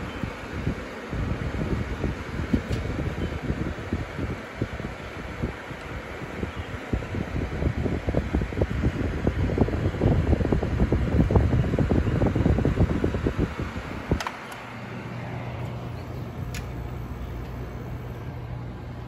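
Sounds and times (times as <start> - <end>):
air conditioner fan blowing: 0.0 - 19.0
low unit hum: 0.0 - 19.0.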